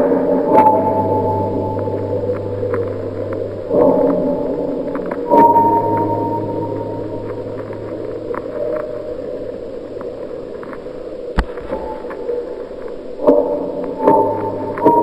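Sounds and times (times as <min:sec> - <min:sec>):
eerie low drone: 0:00.0 - 0:15.0.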